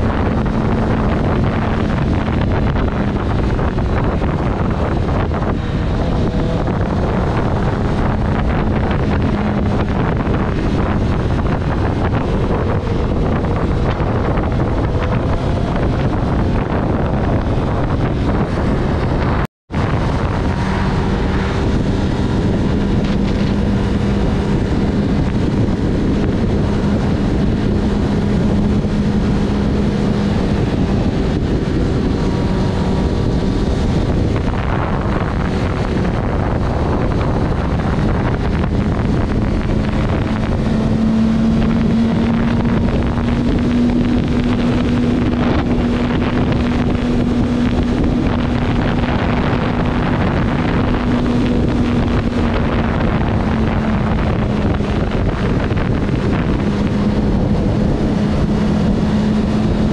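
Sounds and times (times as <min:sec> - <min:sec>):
motorcycle engine drone: 0:00.0 - 0:59.9
wind buffeting microphone: 0:00.0 - 0:59.9.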